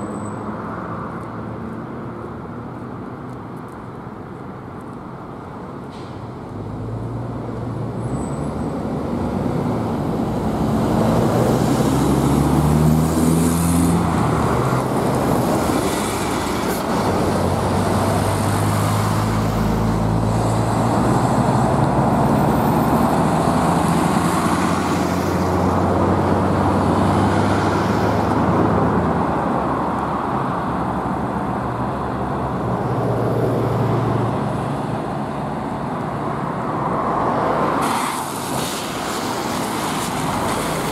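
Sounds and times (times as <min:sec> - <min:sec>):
bus engines accelerating: 0:00.0 - 0:40.9
road traffic noise: 0:00.0 - 0:40.9.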